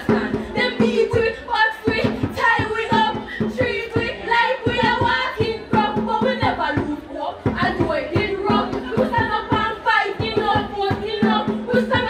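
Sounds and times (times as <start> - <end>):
woman singing through loudspeaker: 0.0 - 12.0.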